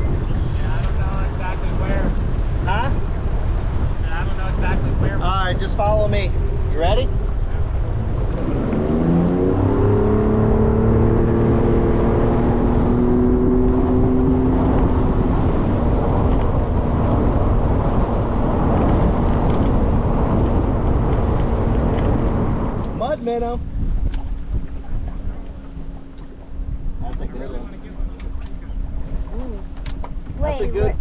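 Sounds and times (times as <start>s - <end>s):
outboard motor revving: 0.0s - 31.0s
rush of wind and water: 0.0s - 31.0s.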